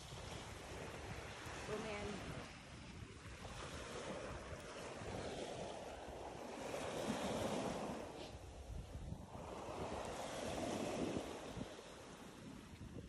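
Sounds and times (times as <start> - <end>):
waves washing onto pebbles: 0.0 - 8.4, 9.2 - 12.8
wind rumbling on microphone: 0.0 - 13.0.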